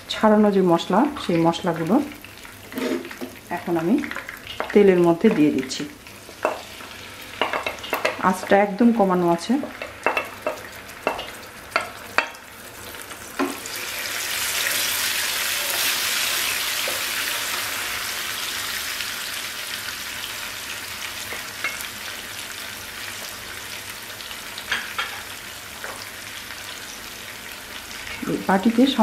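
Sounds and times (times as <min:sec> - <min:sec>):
paste sizzling in hot oil: 0:01.6 - 0:28.2.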